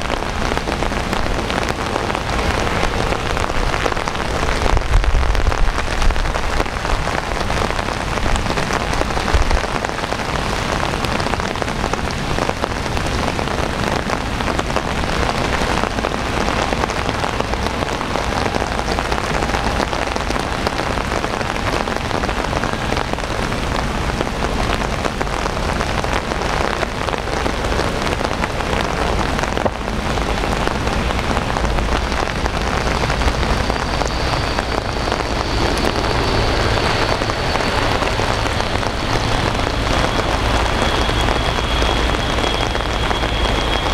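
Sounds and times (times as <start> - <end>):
faint high steady whine: 0.0 - 43.9
low rumble: 0.0 - 43.9
steady rain falling: 0.0 - 43.9.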